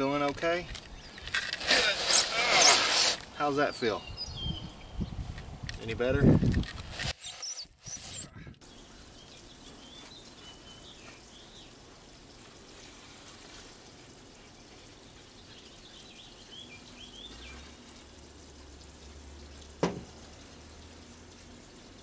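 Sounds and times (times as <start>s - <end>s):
birds chirping: 0.0s - 6.0s, 7.2s - 20.5s.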